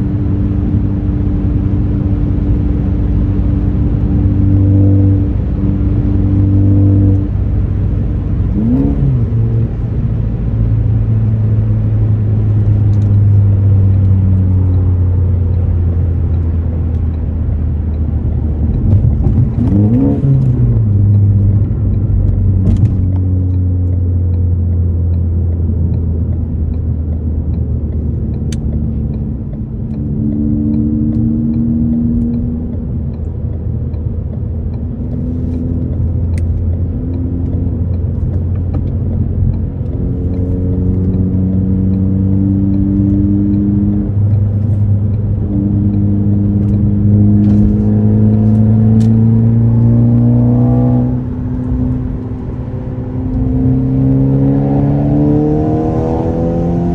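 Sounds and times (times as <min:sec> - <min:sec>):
car engine accelerating: 0:00.0 - 0:56.9
low exhaust drone: 0:00.0 - 0:56.9.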